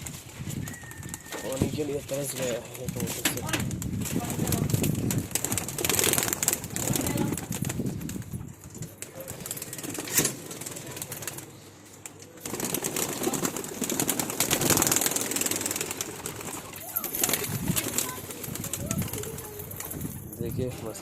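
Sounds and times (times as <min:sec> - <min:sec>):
pigeons flapping wings: 0:00.0 - 0:20.3.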